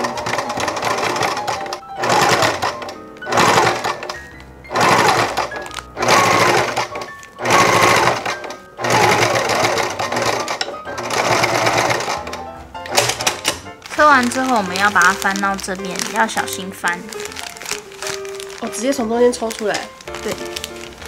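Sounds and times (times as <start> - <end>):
sewing machine stitching: 0.0 - 17.5
background music: 0.0 - 21.0.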